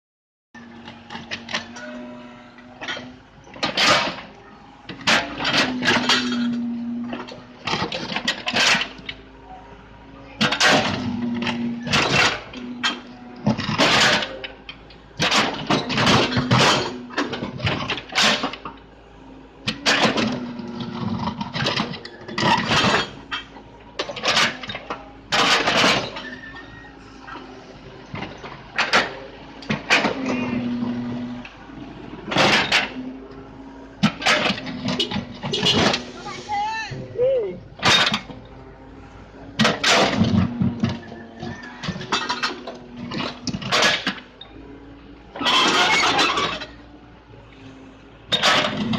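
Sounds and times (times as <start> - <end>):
excavator diesel engine: 0.6 - 48.9
excavator scraping and clattering: 0.6 - 48.9.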